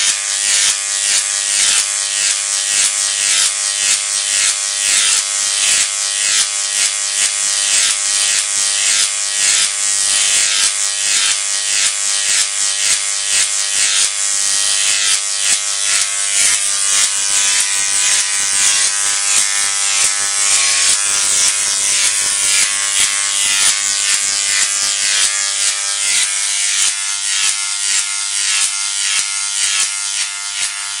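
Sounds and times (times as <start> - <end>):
electric arc crackling and buzzing: 0.0 - 31.0.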